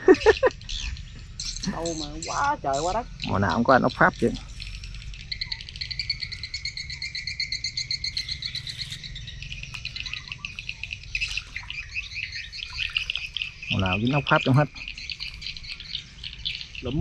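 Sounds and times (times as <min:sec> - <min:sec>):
high-pitched chirping trill: 0:00.1 - 0:17.0.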